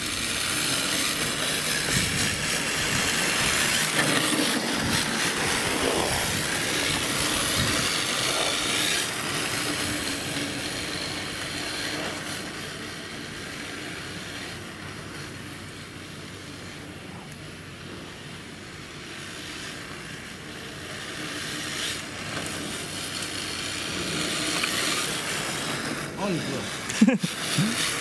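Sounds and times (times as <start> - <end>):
electric motor whining: 0.0 - 28.0
tyres scrubbing on asphalt: 0.0 - 28.0.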